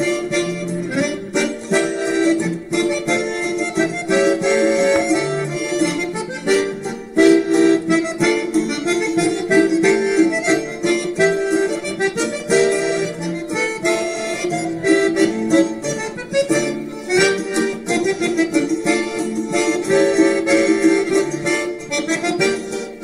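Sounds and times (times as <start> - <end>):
instrumental background music: 0.0 - 23.0.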